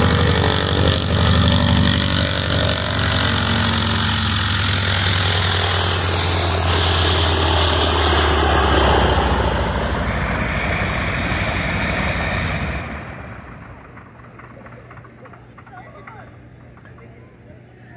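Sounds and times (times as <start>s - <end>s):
radial aircraft engine idling: 0.0s - 17.9s.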